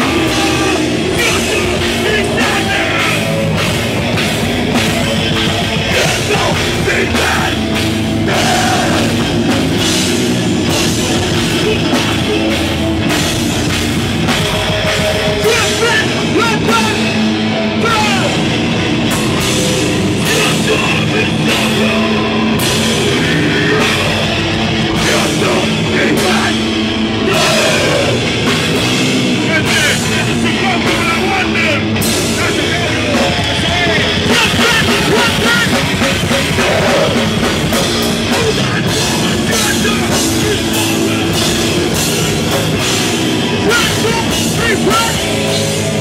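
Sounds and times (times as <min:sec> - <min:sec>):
bass guitar: 0:00.0 - 0:46.0
drum kit with cymbals: 0:00.0 - 0:46.0
electric guitars: 0:00.0 - 0:46.0.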